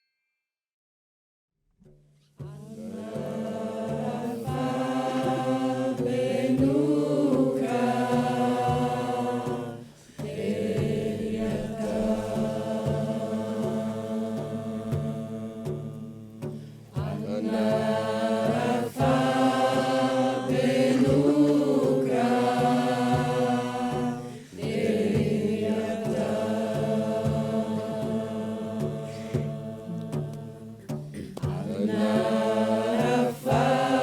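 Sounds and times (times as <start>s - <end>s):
voices chanting sustained notes: 2.7s - 16.4s, 17.1s - 30.9s.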